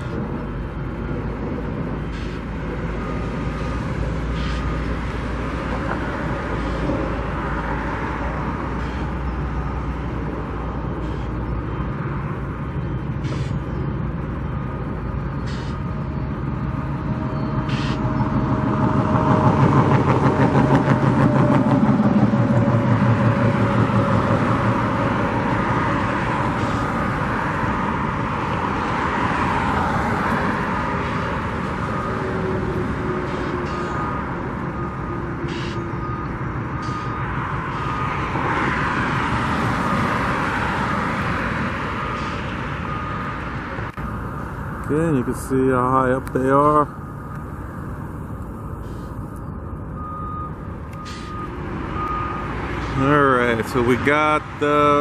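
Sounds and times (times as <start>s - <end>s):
large vehicle engine passing: 0.0s - 49.1s
road traffic: 0.0s - 55.0s.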